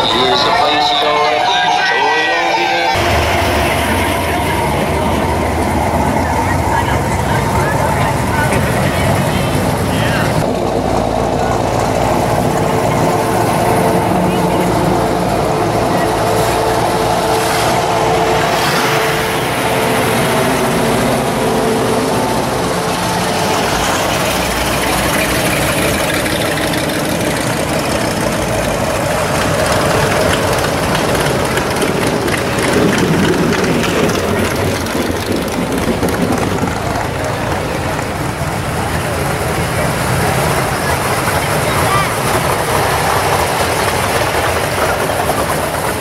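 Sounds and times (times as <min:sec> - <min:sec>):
car engines rolling past: 0:00.0 - 0:46.0.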